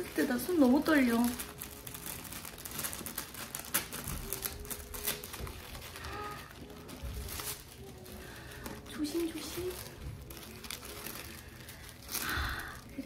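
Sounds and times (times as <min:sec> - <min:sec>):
paper packaging crinkling: 0:00.0 - 0:13.0
soft background music: 0:00.0 - 0:13.0.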